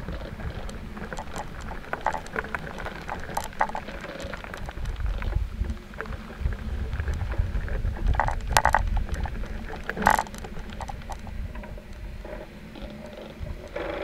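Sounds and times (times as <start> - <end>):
robot rolling noise: 0.0 - 14.0
wind rumble: 0.0 - 14.0
clicks and knocks: 0.4 - 6.2, 7.1 - 13.1.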